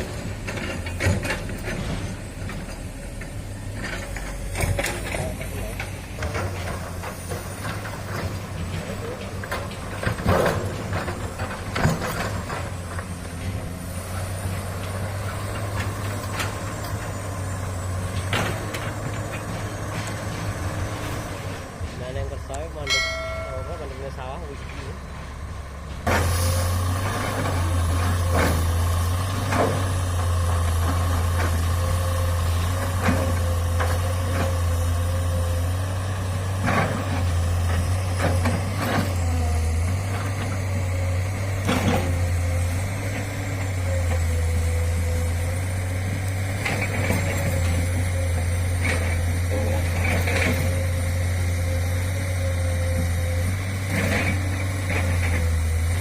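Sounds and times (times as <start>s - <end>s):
diesel excavator engine drone: 0.0s - 56.0s.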